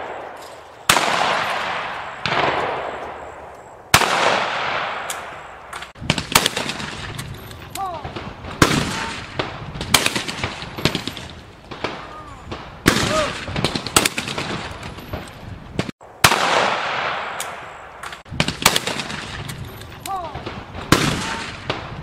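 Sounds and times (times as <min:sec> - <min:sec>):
shotgun shots echoing: 0:00.0 - 0:22.0.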